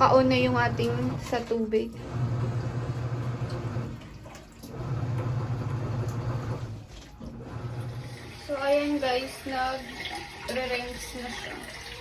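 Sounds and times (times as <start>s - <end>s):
washing machine motor hum: 0.0s - 12.0s
water swishing in tub: 0.0s - 12.0s.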